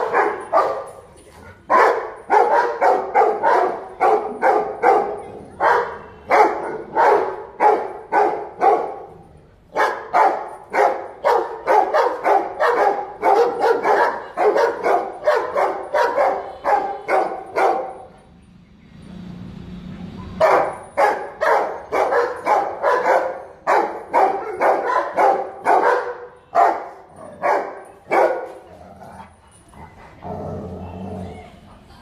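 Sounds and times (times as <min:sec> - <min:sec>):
dogs barking: 0:00.0 - 0:01.0, 0:01.6 - 0:18.1, 0:20.4 - 0:29.4.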